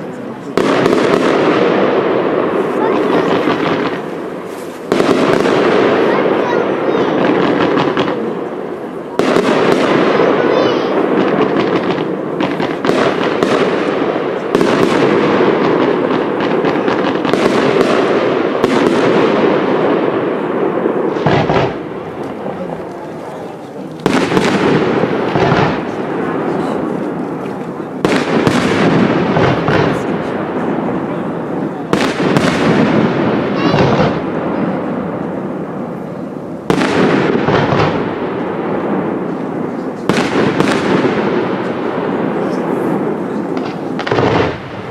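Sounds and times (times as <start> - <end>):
firework bangs: 0.0 - 44.9
fireworks crackling and hissing: 0.0 - 44.9.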